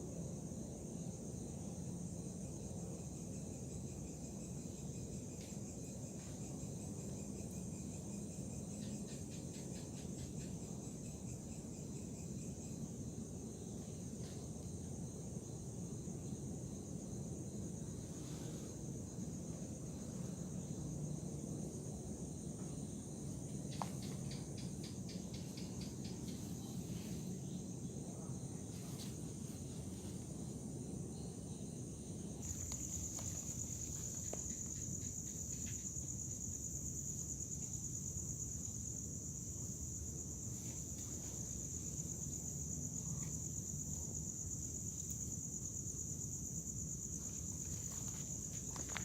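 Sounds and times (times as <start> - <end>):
insects chorus: 0.0 - 49.0.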